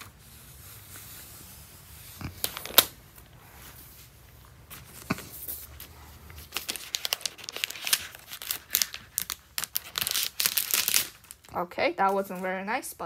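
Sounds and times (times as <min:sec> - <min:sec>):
plastic film peeling and crackling: 0:00.0 - 0:03.3, 0:04.6 - 0:12.5.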